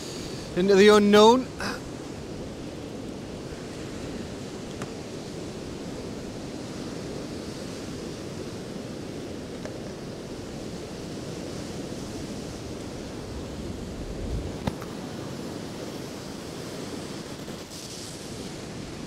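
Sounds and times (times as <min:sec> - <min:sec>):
sea surf breaking: 0:00.0 - 0:19.0.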